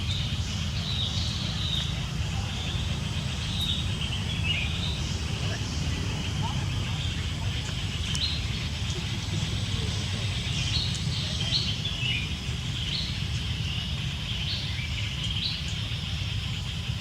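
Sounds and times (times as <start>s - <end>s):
bird chirping: 0.0s - 17.0s
steady low rumble: 0.0s - 17.0s.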